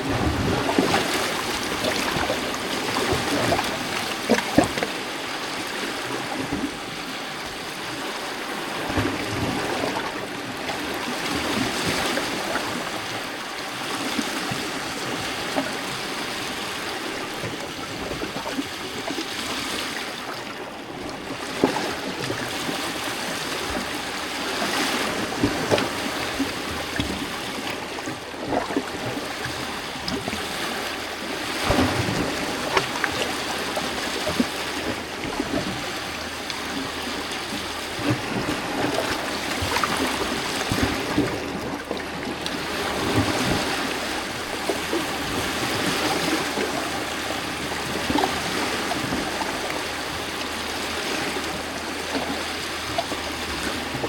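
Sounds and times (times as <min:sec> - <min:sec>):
waves lapping against rocks: 0:00.0 - 0:54.0.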